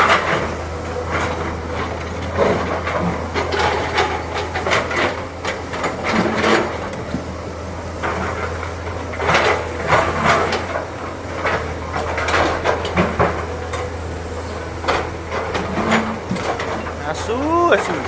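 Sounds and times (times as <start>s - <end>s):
diesel engine droning: 0.0s - 18.0s
excavator bucket clanking: 0.0s - 18.0s.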